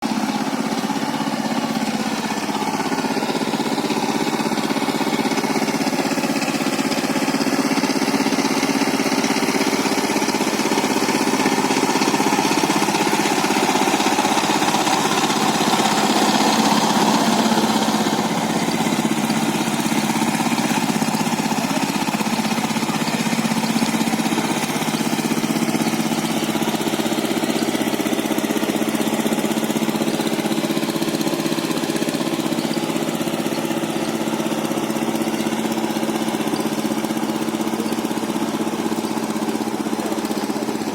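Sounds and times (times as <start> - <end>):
tiller diesel engine running: 0.0 - 40.9.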